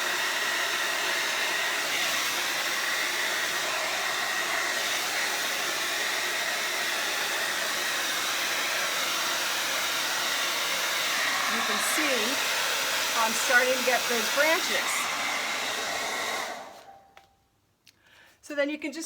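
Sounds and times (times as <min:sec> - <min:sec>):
hair dryer running: 0:00.0 - 0:17.3.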